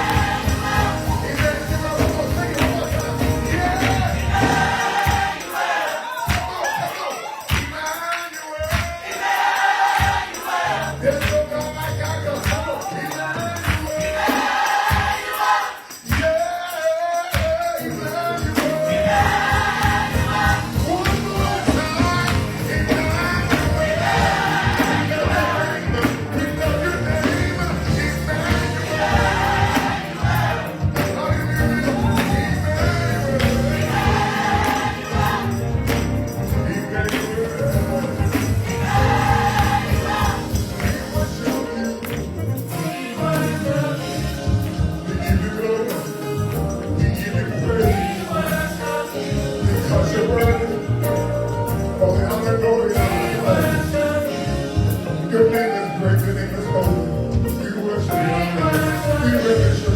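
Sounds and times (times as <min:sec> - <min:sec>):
live band playing: 0:00.0 - 0:07.9, 0:17.4 - 0:59.9
gospel choir singing: 0:00.0 - 0:59.9.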